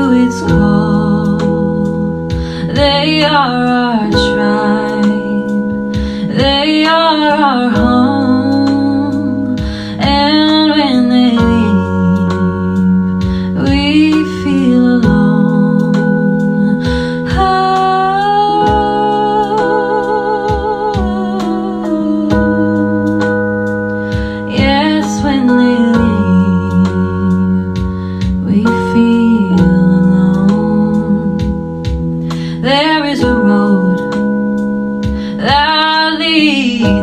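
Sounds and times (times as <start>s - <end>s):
held chords: 0.0s - 37.0s
slow sung melody: 0.0s - 37.0s.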